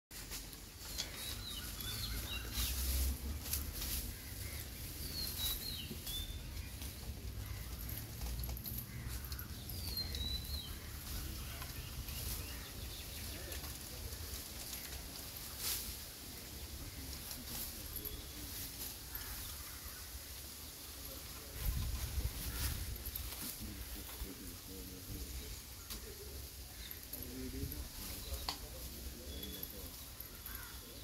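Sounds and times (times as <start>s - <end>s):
faint rustles: 0.2s - 31.0s
birds chirping: 0.3s - 31.0s.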